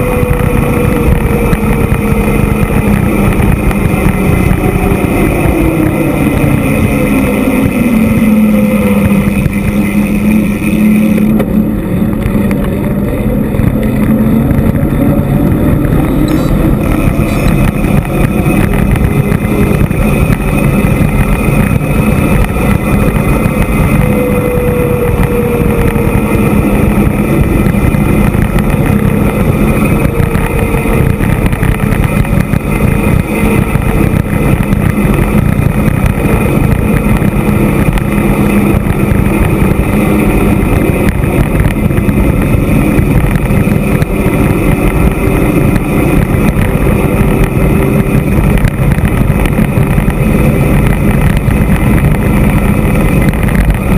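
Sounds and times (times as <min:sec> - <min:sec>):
faint engine hum: 0:00.0 - 0:53.9
wind buffeting microphone: 0:00.0 - 0:53.9.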